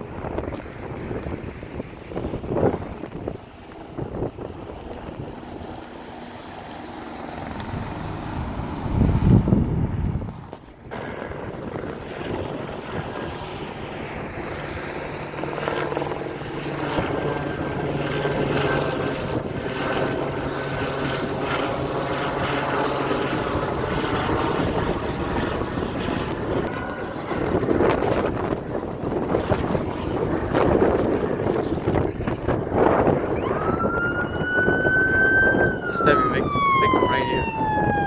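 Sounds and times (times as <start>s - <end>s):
helicopter flying overhead: 0.0s - 38.0s.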